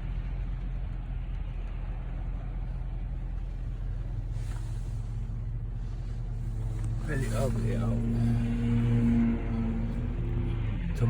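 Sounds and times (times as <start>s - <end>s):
car cabin engine and tyre drone: 0.0s - 11.0s.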